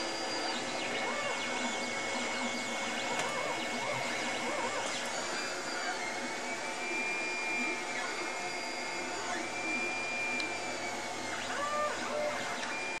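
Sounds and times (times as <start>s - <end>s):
steady machine whir: 0.0s - 13.0s
stepper motors whining: 0.0s - 13.0s.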